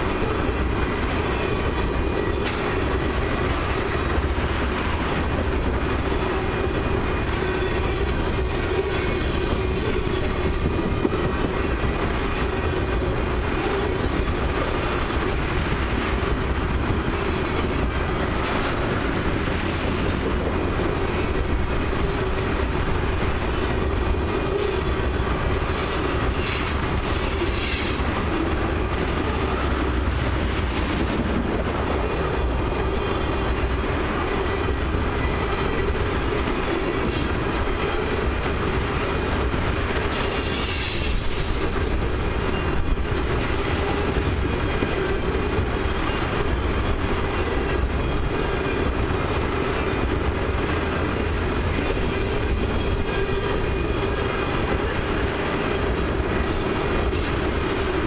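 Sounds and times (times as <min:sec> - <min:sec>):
train wheels clacking on rail: 0:00.0 - 0:58.0.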